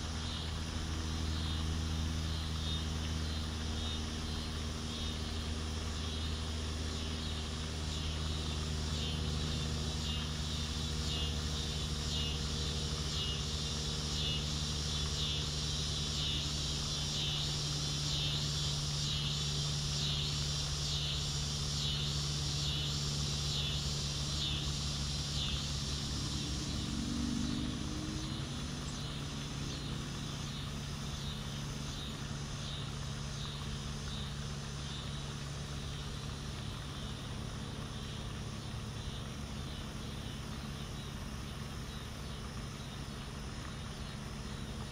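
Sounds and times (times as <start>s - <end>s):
insects chirring: 0.0s - 44.9s
low mechanical hum: 0.0s - 44.9s.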